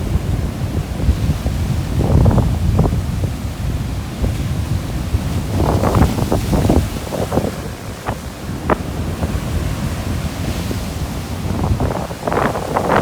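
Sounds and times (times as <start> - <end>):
waves splashing on shore: 0.0 - 13.0
wind buffeting microphone: 0.0 - 13.0.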